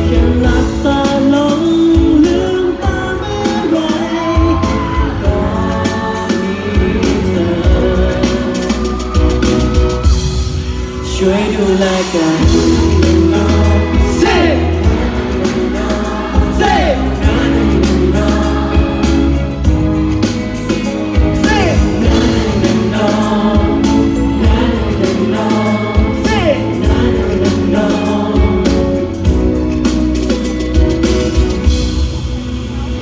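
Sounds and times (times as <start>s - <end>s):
pop song with sung vocals: 0.0s - 31.9s.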